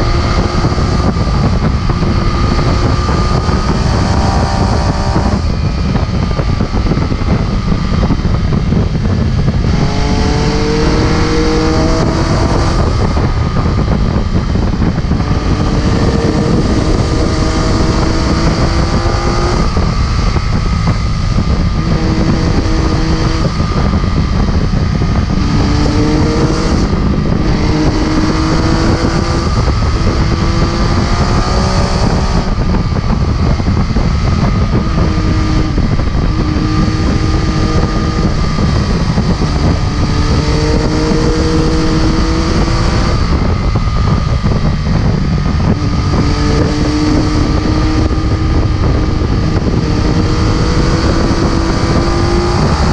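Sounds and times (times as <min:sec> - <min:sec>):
motorcycle engine shifting gears: 0:00.0 - 0:52.9
wind buffeting microphone: 0:00.0 - 0:52.9.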